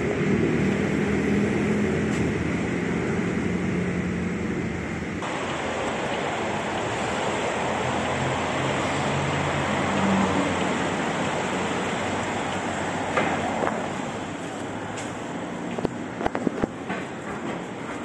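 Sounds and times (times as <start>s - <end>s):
traffic swishing on wet roads: 0.0s - 18.0s.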